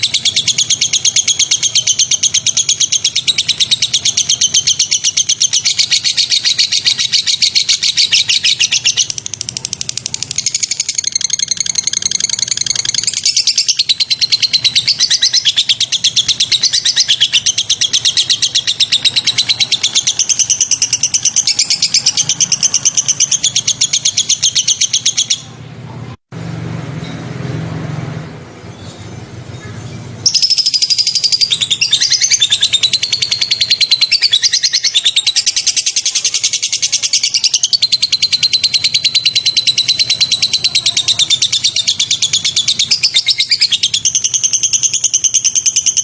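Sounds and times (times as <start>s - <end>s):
songbird chattering: 0.0s - 25.7s, 28.7s - 46.0s.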